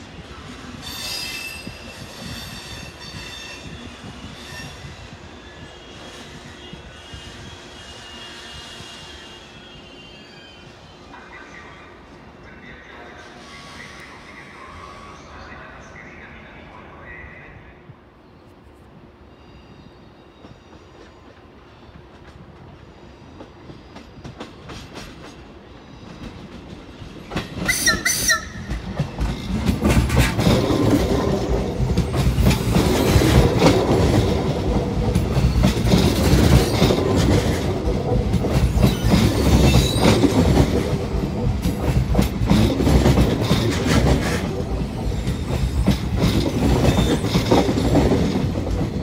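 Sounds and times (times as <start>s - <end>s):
train rumbling: 0.0s - 49.0s
train high-pitched squeal: 0.2s - 17.6s, 19.2s - 22.0s, 22.7s - 25.0s, 25.6s - 26.5s, 27.4s - 49.0s.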